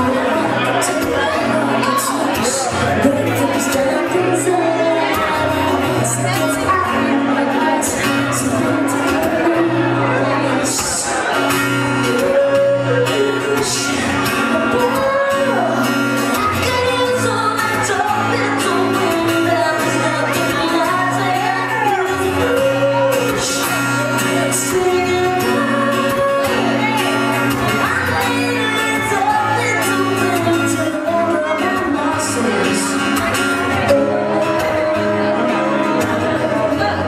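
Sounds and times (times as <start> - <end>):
acoustic guitar strumming: 0.0 - 37.0
woman singing: 0.0 - 37.0.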